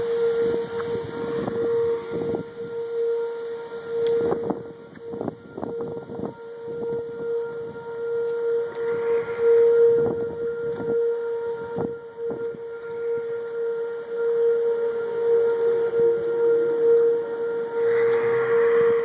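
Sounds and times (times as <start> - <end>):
warning siren steady tone: 0.0 - 19.0
wind noise on microphone: 0.0 - 19.0.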